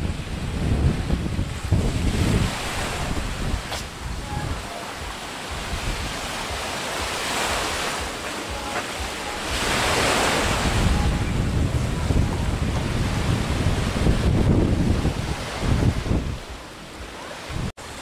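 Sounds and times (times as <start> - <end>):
small waves breaking on beach: 0.0 - 18.0
wind buffeting microphone: 0.0 - 18.0.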